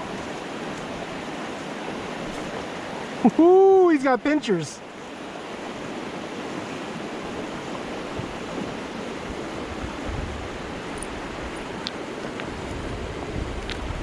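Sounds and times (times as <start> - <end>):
creek water rushing: 0.0 - 14.0.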